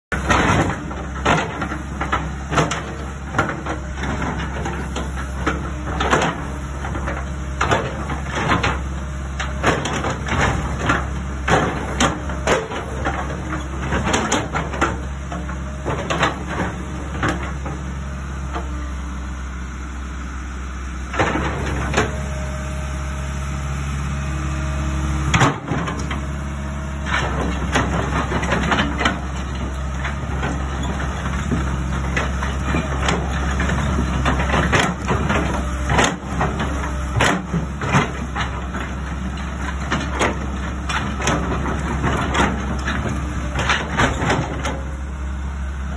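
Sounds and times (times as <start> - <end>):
excavator diesel engine idling: 0.2 - 45.9.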